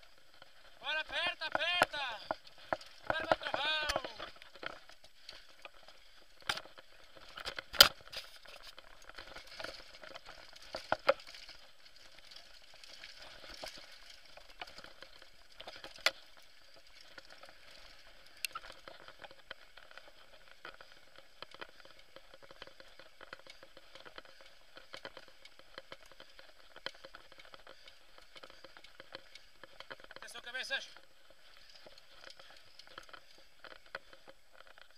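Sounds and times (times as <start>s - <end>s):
bike tyres crackling over loose ground: 0.0s - 34.9s
bike knocking on rocks: 0.3s - 34.9s.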